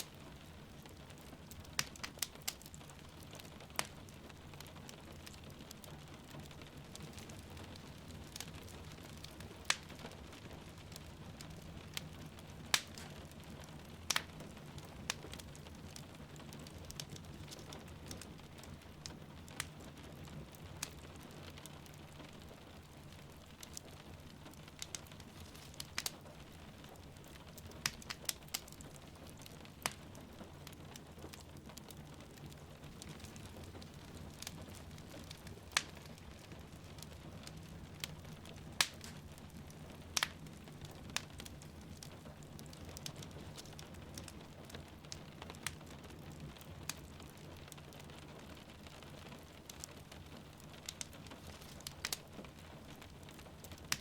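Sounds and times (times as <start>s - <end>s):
fireplace crackling: 0.0s - 54.0s.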